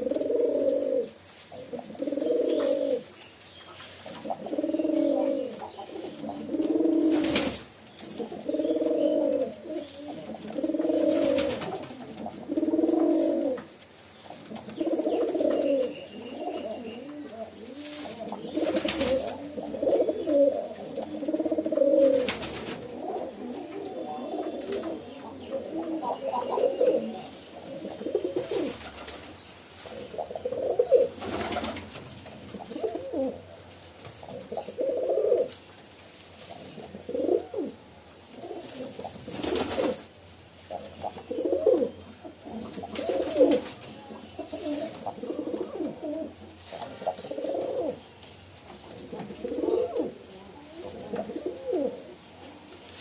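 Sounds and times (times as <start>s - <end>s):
pigeons cooing: 0.0s - 3.2s, 3.8s - 35.8s, 36.4s - 52.8s.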